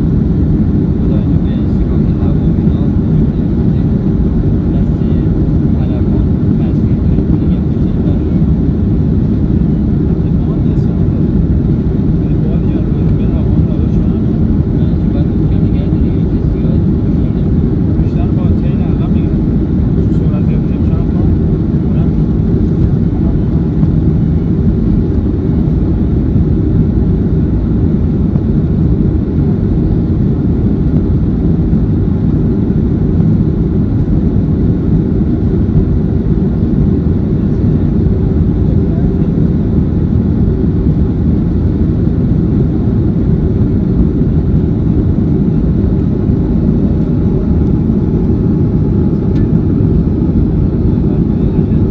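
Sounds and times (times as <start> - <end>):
airplane cabin engine rumble: 0.0 - 51.9.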